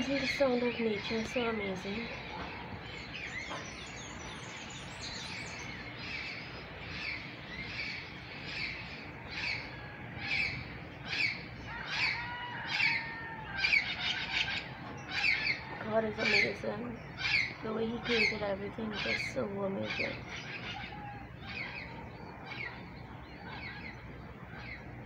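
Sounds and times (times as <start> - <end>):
birds singing and chirping: 0.0 - 25.0.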